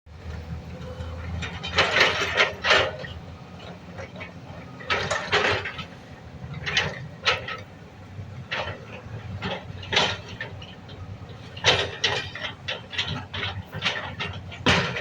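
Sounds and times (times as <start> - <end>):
diesel engine running: 0.1 - 15.0.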